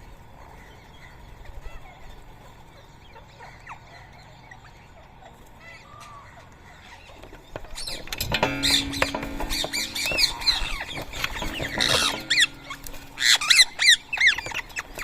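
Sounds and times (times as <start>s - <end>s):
parakeets squawking and chirping: 0.4s - 15.0s
parakeets screeching: 0.5s - 15.0s.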